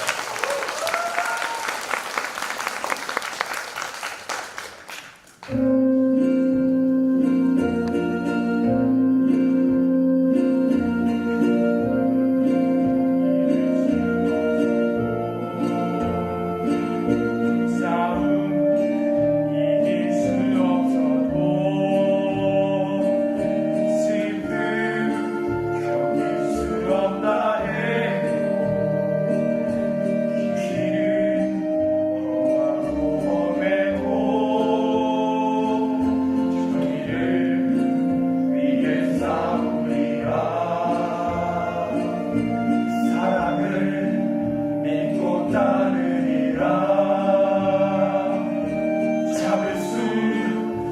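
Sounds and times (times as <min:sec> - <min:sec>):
instrumental accompaniment: 0:04.9 - 0:50.9
choir singing held notes: 0:05.4 - 0:50.9.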